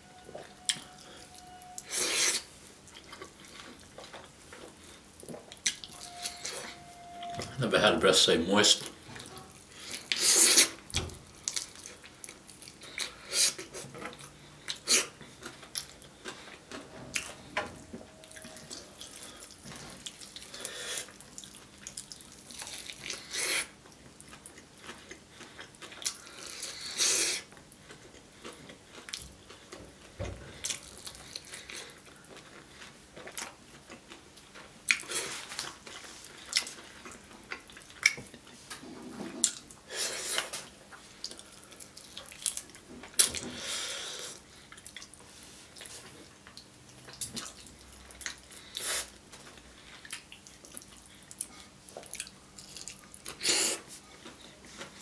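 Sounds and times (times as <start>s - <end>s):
chewing: 0.3s - 6.8s, 11.4s - 17.5s, 18.1s - 55.0s.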